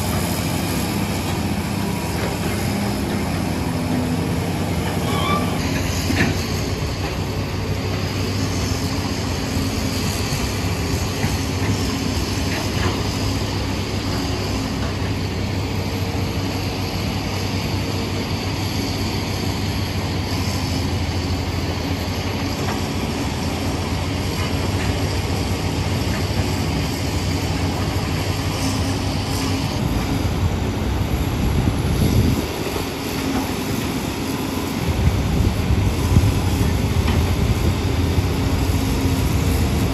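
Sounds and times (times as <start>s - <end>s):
excavator diesel engines running: 0.0s - 39.9s.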